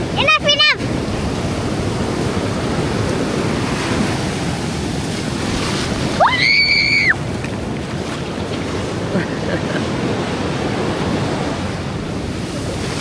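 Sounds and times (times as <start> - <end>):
ocean surf washing: 0.0 - 13.0.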